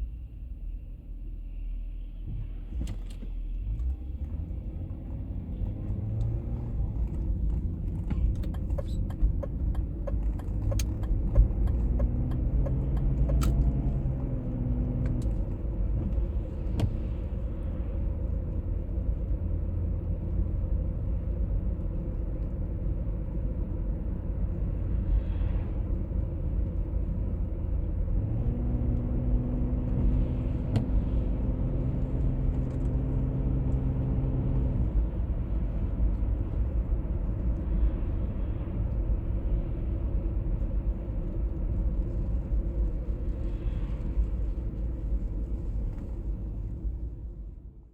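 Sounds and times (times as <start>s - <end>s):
car road and drivetrain rumble: 0.0s - 47.9s.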